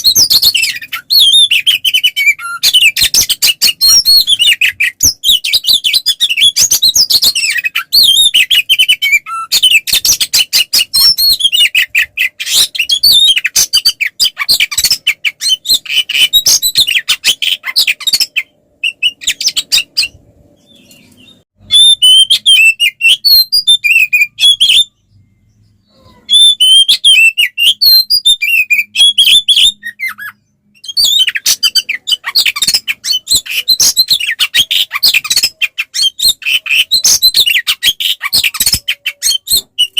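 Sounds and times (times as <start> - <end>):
bird singing chattering and whistles: 0.0 - 39.9.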